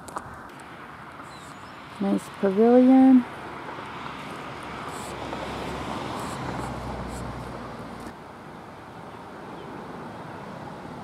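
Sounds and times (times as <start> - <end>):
vehicle rumble and tyre noise: 0.0 - 11.0.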